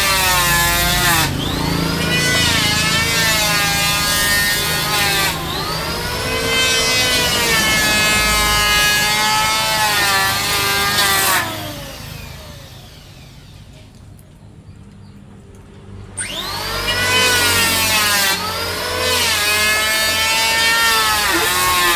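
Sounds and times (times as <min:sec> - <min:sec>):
motor winding down: 0:00.0 - 0:14.0, 0:16.2 - 0:21.9
power tool cutting wood: 0:00.0 - 0:14.0, 0:16.2 - 0:21.9.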